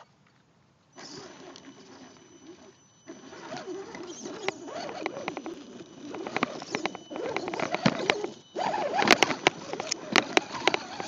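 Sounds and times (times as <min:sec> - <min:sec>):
toy truck electric motor whining: 0:01.0 - 0:11.0.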